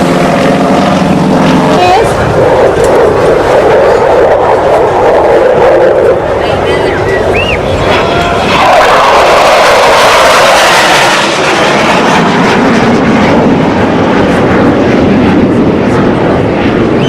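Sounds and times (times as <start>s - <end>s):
military jet engine roar: 0.0s - 17.0s.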